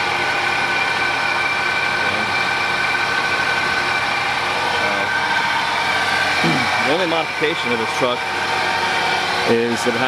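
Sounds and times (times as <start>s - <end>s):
high-pitched whine: 0.0s - 10.0s
truck engine idling: 0.0s - 10.0s.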